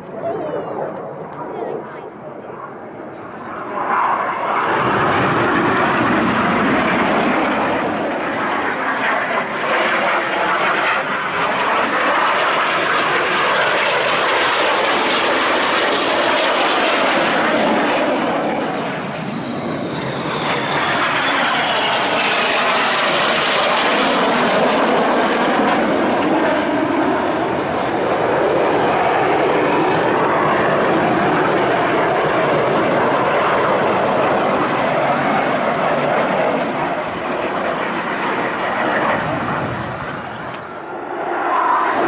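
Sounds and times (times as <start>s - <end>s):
jet engine noise: 0.0s - 42.0s
jet passing with falling whine: 0.0s - 42.0s.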